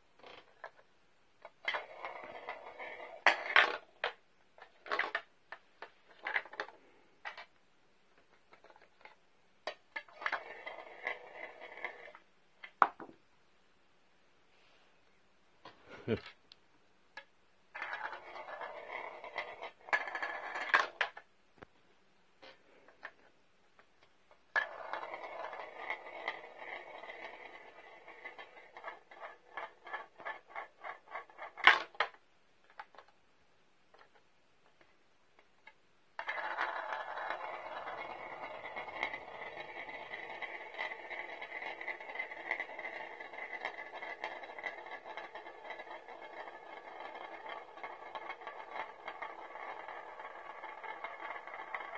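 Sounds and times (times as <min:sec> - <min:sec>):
balls clicking on plastic tracks: 0:00.0 - 0:13.2, 0:17.1 - 0:21.7, 0:22.4 - 0:51.9.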